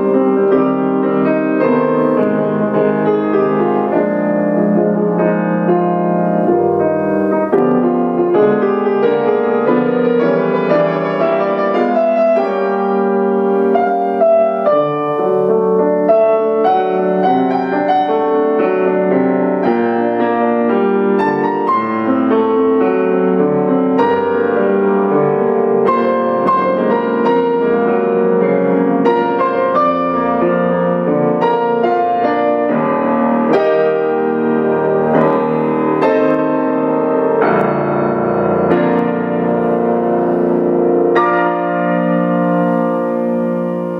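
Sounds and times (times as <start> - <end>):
grand piano playing: 0.0 - 43.9.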